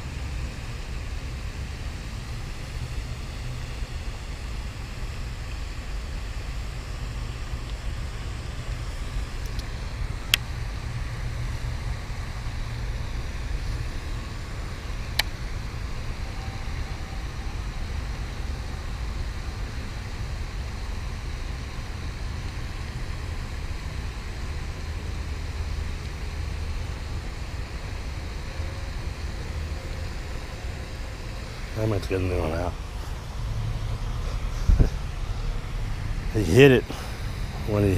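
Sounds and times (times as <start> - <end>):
low outdoor rumble: 0.0 - 37.9.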